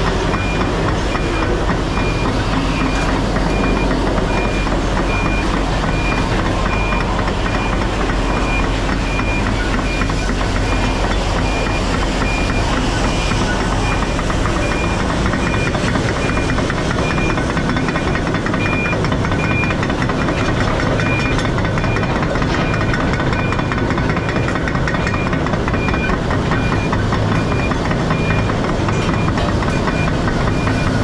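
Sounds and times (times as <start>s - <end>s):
diesel truck engine rumbling: 0.0s - 31.0s.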